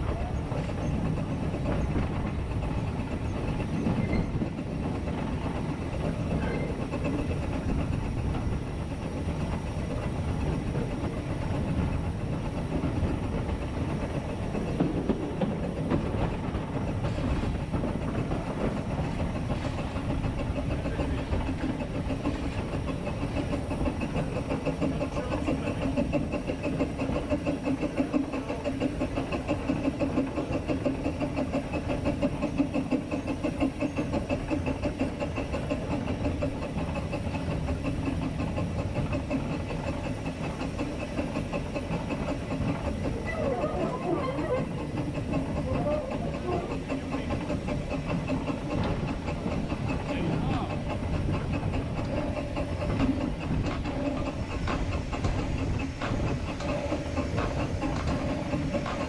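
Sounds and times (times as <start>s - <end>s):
steam exhaust beat: 0.0s - 59.0s
steam locomotive rumble and rattle: 0.0s - 59.0s.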